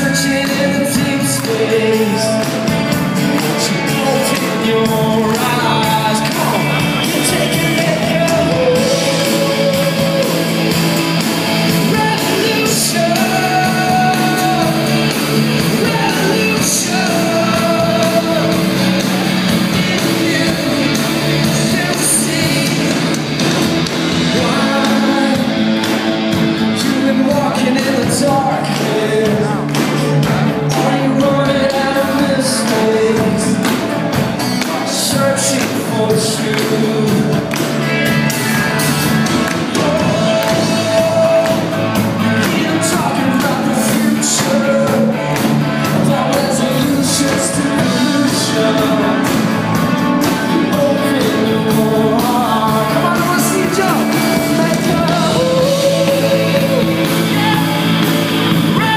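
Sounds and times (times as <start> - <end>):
drums: 0.0 - 58.9
electric guitars: 0.0 - 58.9
man singing: 0.0 - 58.9.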